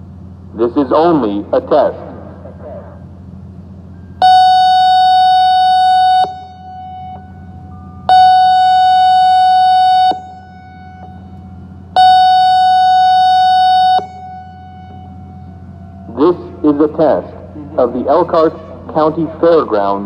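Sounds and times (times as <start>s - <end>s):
outdoor warning siren blasts: 2.6s - 20.0s.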